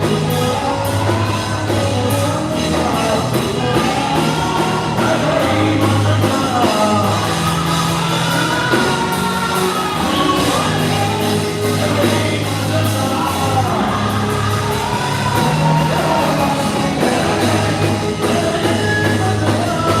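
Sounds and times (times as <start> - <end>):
gospel singing with band: 0.0 - 20.0.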